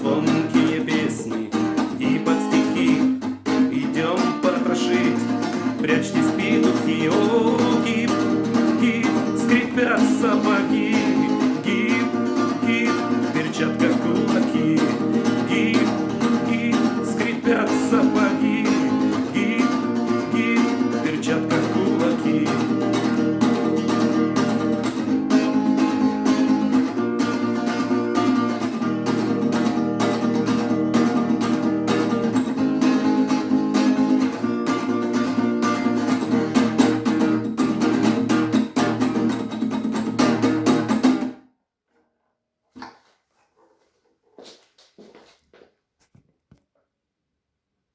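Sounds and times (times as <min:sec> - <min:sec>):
guitar-led instrumental music: 0:00.0 - 0:41.4.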